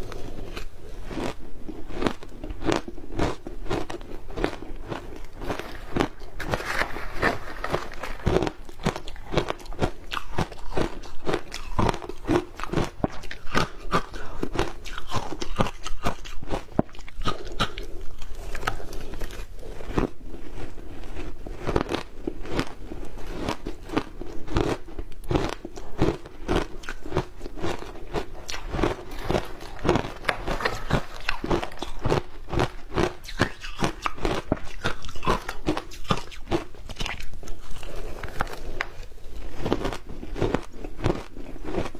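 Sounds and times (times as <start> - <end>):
person crunching ice: 0.0 - 41.9.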